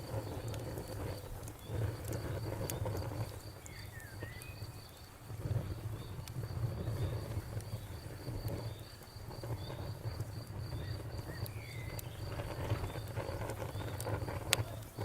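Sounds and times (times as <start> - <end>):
campfire crackling and popping: 0.0 - 15.0
insect chirping: 0.0 - 15.0.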